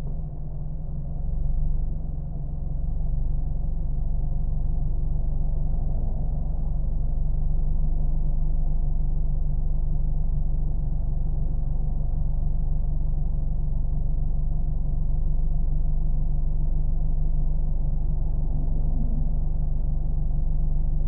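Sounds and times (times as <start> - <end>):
muffled car engine hum: 0.0 - 21.0.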